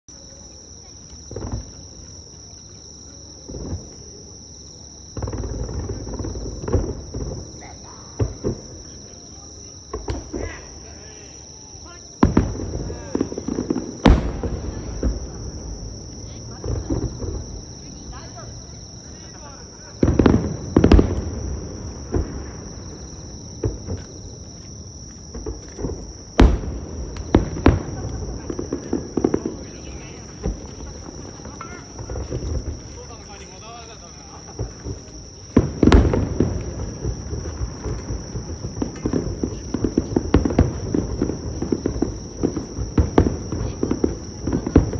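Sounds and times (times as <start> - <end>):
crickets chirping: 0.1 - 44.9
high insect trill: 0.1 - 44.9
fireworks booming: 1.1 - 2.1, 3.4 - 4.4, 5.0 - 44.9.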